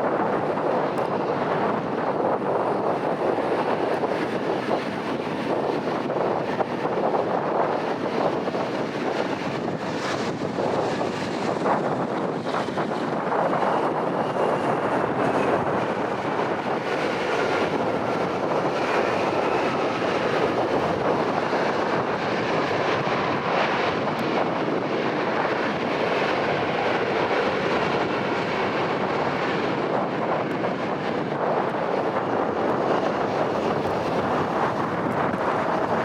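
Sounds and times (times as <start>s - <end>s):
aircraft engine noise: 0.0s - 36.0s
wind buffeting microphone: 0.0s - 36.0s.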